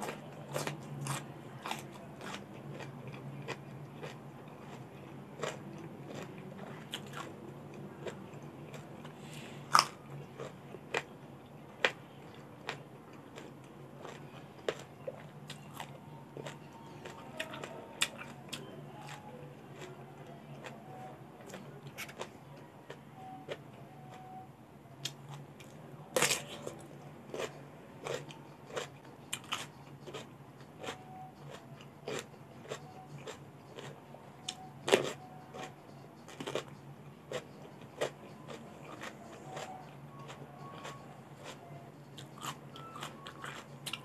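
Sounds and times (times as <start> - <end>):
wet chewing: 0.0 - 11.1, 11.8 - 20.8, 25.0 - 35.7, 37.3 - 44.0.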